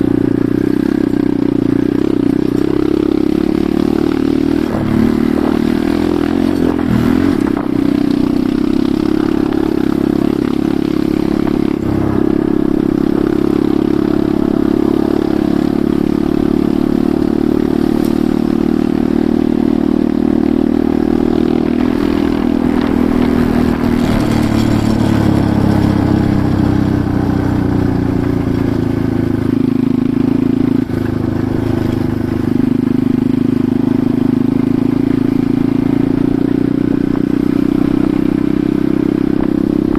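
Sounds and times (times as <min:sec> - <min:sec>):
bike rattling and clattering: 0:00.0 - 0:39.9
motorcycle engine revving: 0:00.0 - 0:39.9.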